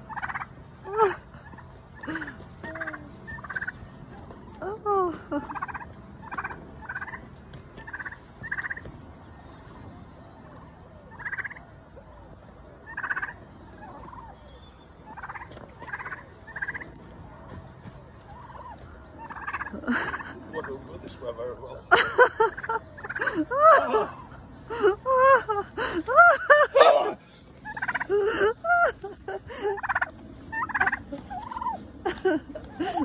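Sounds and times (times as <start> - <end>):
turkey gobbling: 0.0 - 4.6, 5.4 - 8.9, 10.5 - 17.3, 18.1 - 20.9, 21.6 - 33.0.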